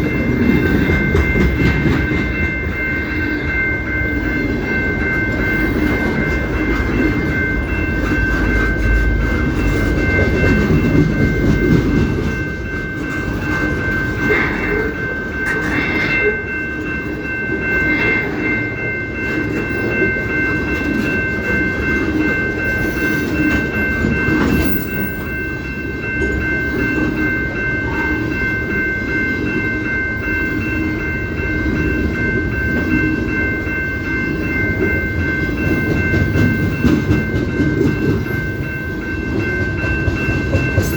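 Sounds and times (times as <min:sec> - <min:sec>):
train rumble with wheel clatter: 0:00.0 - 0:40.9.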